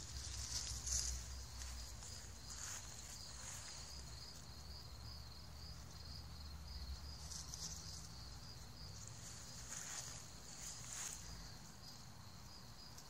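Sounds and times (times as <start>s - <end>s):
crickets chirping: 0.0s - 13.0s
steady insect hiss: 0.0s - 13.0s.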